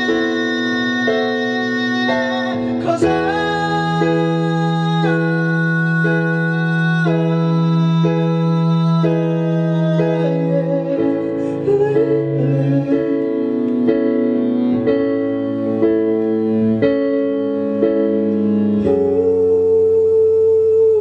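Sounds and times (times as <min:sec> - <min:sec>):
stage piano chords: 0:00.0 - 0:21.0.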